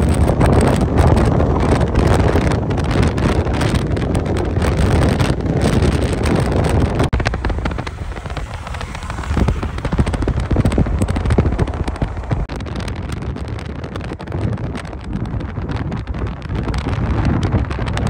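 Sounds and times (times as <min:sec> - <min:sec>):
crackling and popping: 0:00.0 - 0:18.0
wind buffeting microphone: 0:00.0 - 0:18.0.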